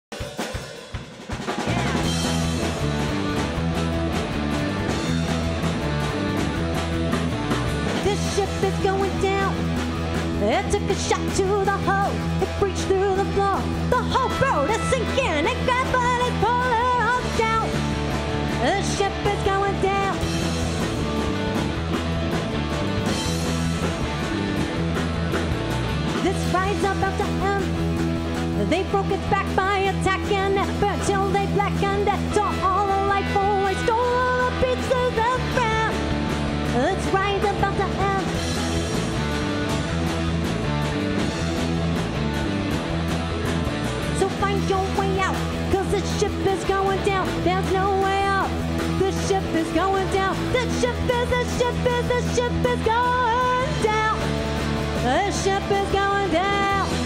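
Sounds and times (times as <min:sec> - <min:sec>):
rock band playing: 0:00.0 - 0:57.0
steady drum beat: 0:00.0 - 0:57.0.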